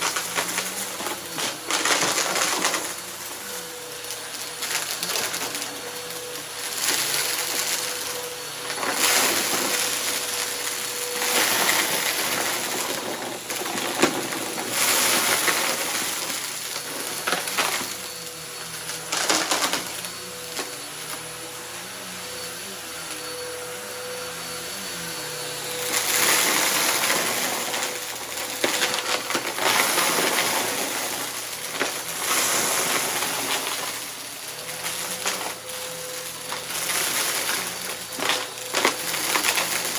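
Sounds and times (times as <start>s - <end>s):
debris crackling and rattling: 0.0s - 20.7s, 25.6s - 39.9s
vacuum cleaner motor whine: 0.0s - 39.9s.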